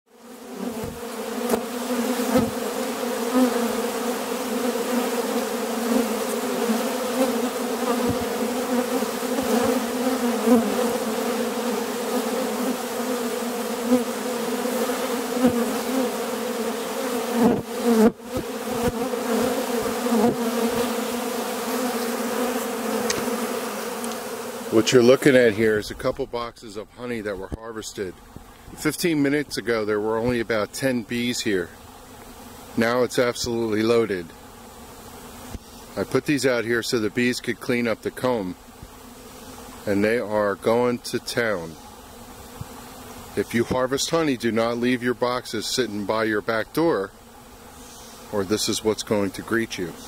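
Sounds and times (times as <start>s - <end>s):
bees buzzing: 0.1s - 50.0s.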